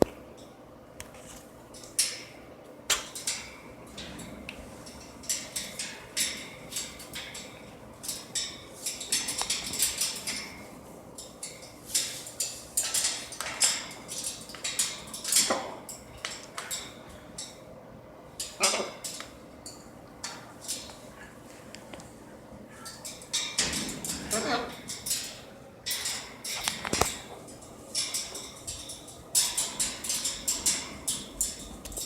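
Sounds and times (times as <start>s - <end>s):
parrots clicking on cage: 2.9s - 17.6s, 18.4s - 21.0s, 22.8s - 32.0s.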